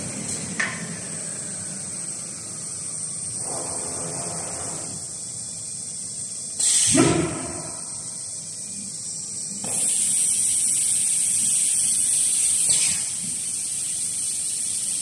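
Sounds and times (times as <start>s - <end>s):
loud hiss: 1.2s - 15.0s.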